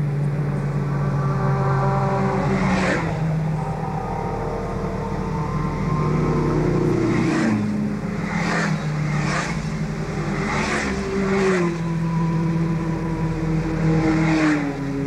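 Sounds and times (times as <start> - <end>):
motorcycles passing by: 0.0 - 15.0.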